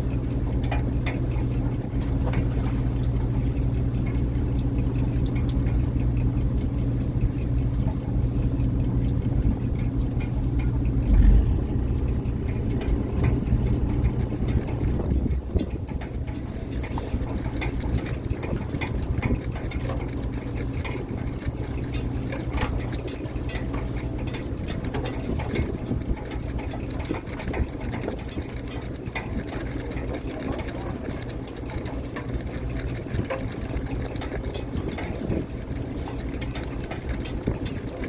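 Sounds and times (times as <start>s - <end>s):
boat engine clattering: 0.0s - 38.0s.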